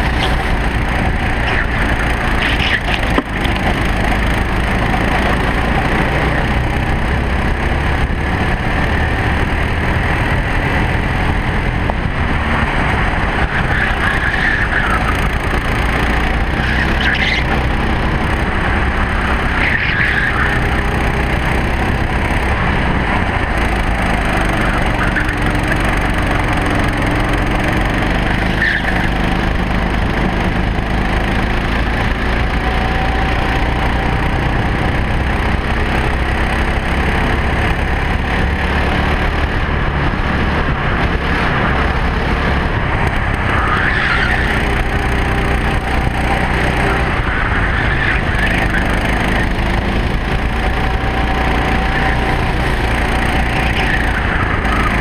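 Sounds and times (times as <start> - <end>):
low wind rumble on microphone: 0.0 - 28.4, 37.0 - 55.0
racing kart engine revving: 0.0 - 55.0.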